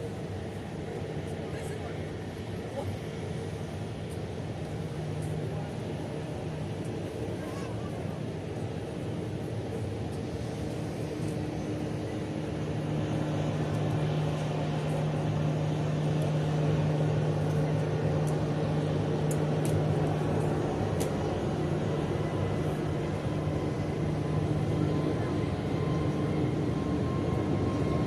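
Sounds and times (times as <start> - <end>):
airliner cabin drone: 0.0 - 28.0.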